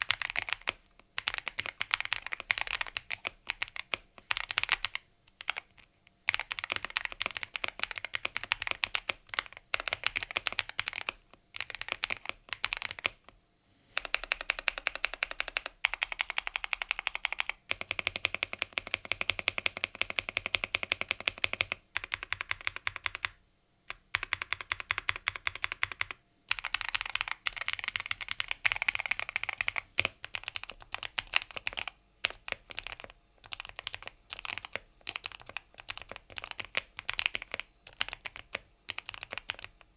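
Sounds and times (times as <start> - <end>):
mechanical keyboard typing: 0.0 - 13.4, 14.0 - 39.9.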